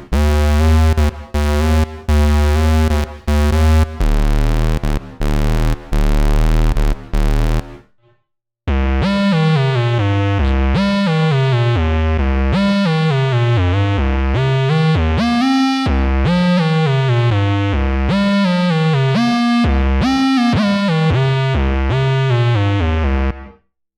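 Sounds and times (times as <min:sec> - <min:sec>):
chopped synthesizer bass tone: 0:00.0 - 0:07.9, 0:08.7 - 0:23.5
synthesizer bass notes sliding down: 0:00.0 - 0:07.9, 0:08.7 - 0:23.4.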